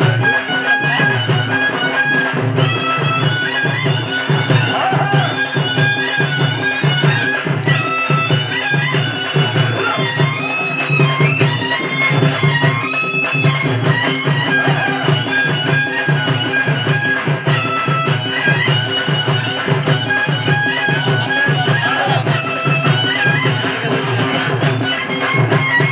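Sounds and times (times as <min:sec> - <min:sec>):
folk music melody: 0:00.0 - 0:25.9
steady drum beat: 0:00.0 - 0:25.9.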